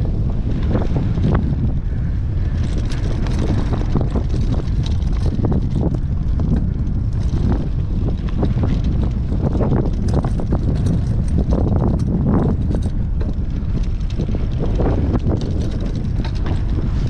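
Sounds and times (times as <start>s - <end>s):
wind buffeting microphone: 0.0s - 17.0s
rattling clicks: 2.6s - 7.6s, 8.4s - 17.0s.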